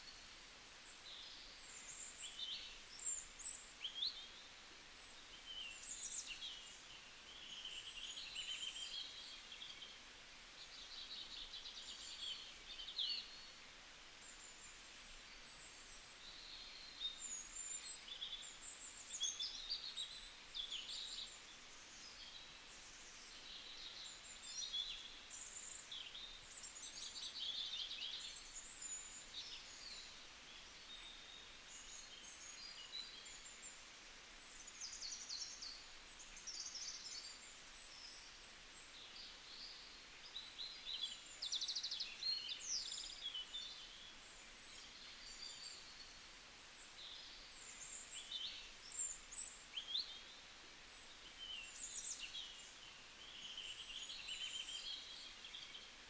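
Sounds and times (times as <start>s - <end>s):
faint forest hiss: 0.0s - 56.0s
small birds chirping and trilling: 0.0s - 56.0s.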